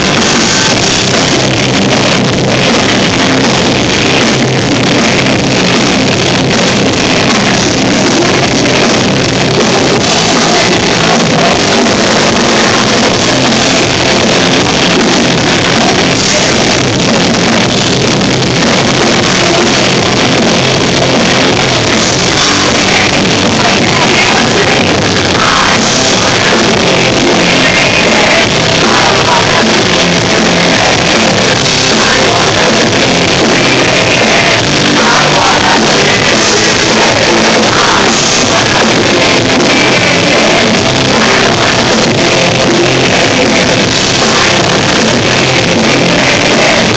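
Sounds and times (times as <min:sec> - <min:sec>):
distorted electric guitars: 0:00.0 - 0:46.9
drum kit: 0:00.0 - 0:46.9
person singing: 0:00.0 - 0:46.9.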